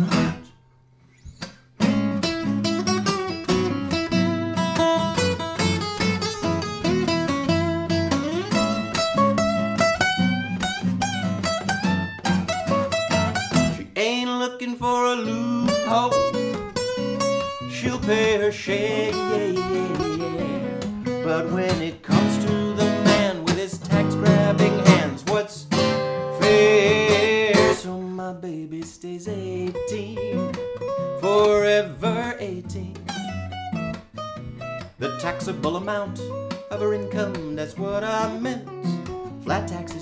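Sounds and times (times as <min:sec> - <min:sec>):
acoustic guitar strumming chords: 0:00.0 - 0:00.7, 0:01.8 - 0:40.0
guitar single-note lead: 0:01.9 - 0:13.8, 0:15.8 - 0:27.8, 0:30.0 - 0:40.0.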